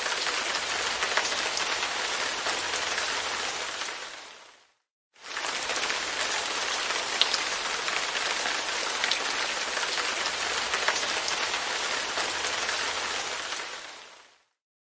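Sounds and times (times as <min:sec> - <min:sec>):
light rain on a window: 0:00.0 - 0:14.6.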